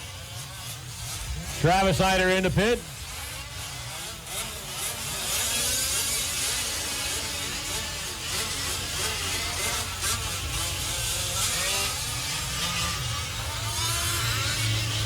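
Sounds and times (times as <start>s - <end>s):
small two-stroke engines buzzing: 0.0s - 15.0s.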